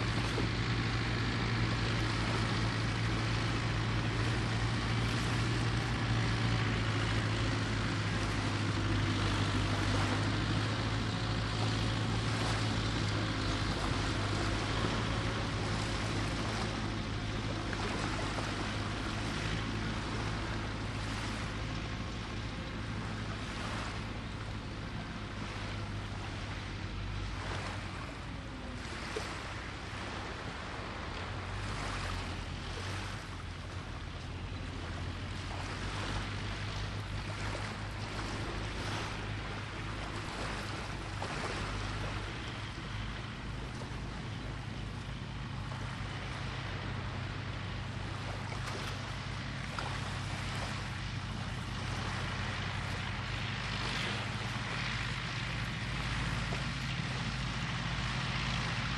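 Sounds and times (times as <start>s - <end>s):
sea surf washing on beach: 0.0s - 58.9s.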